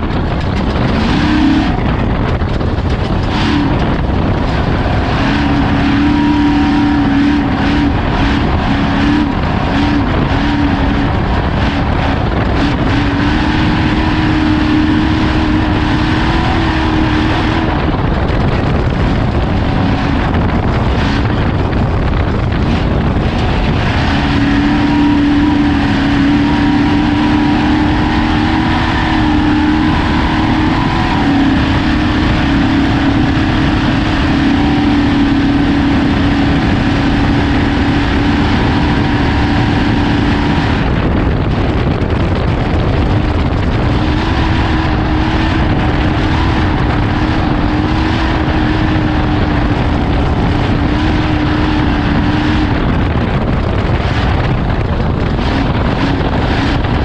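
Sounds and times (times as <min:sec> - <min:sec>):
race vehicle engine: 0:00.0 - 0:57.0
wind and road noise: 0:00.0 - 0:57.0.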